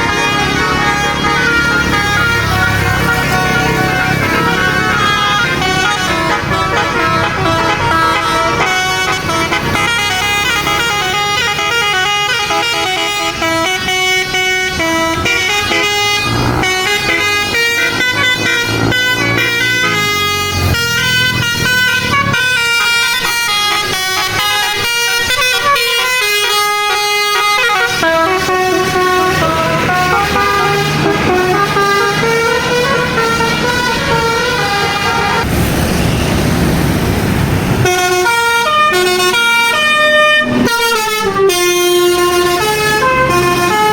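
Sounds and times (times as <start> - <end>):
musical air horn playing a tune: 0.0 - 36.3, 37.8 - 43.9.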